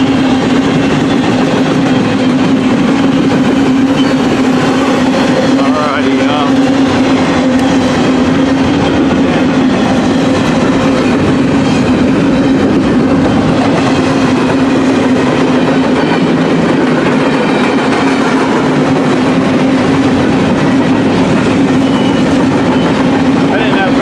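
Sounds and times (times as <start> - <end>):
freight train wheels on rail: 0.0 - 24.0.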